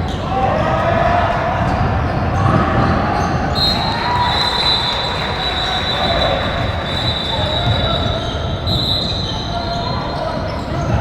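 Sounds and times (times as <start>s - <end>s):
voices: 0.0s - 11.0s.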